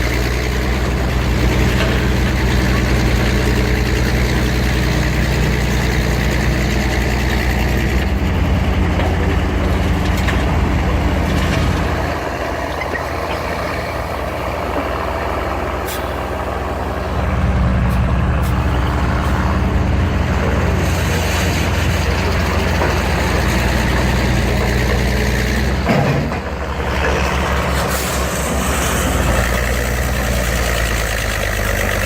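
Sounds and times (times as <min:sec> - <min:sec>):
heavy machinery engine under load: 0:00.0 - 0:32.0.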